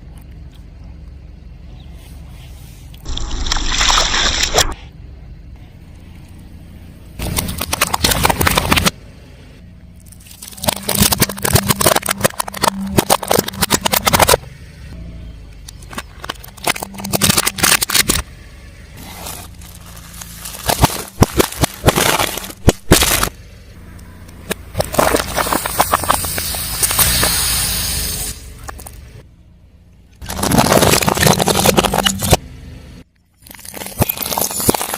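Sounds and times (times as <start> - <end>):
car tyre crushing crunchy objects: 6.0 - 29.3, 30.0 - 34.9.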